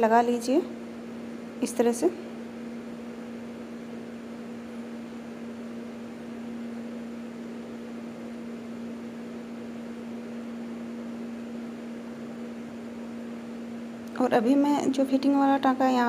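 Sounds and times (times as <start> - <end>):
steady appliance hum: 0.0 - 16.0.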